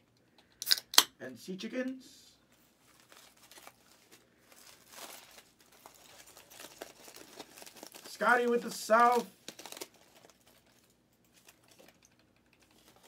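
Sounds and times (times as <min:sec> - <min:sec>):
packaging rustling and crinkling: 0:02.5 - 0:13.0.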